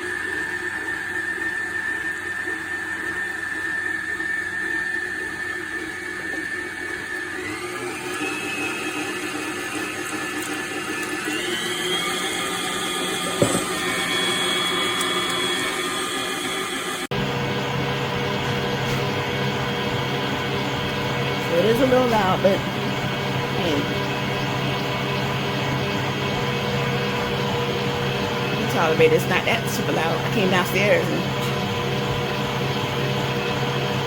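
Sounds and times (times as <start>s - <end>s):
stand mixer motor whining: 0.0s - 34.0s.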